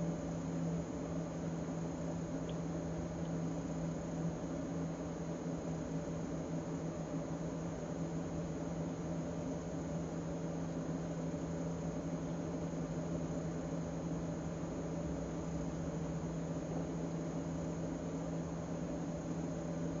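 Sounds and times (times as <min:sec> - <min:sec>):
steady low hum with hiss: 0:00.0 - 0:20.0.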